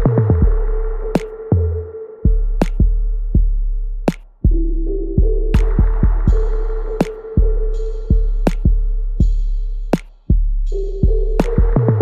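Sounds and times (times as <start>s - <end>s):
electronic music with drum-machine beat: 0.0s - 12.0s.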